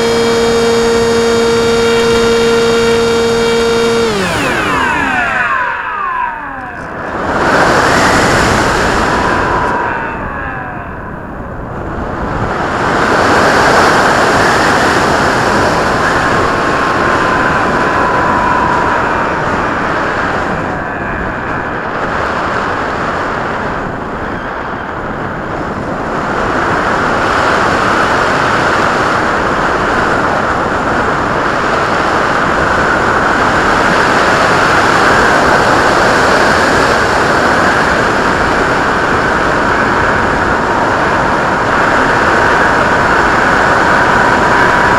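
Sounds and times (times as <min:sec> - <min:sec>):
electric motor whine: 0:00.0 - 0:44.9
rushing wind noise: 0:00.0 - 0:44.9.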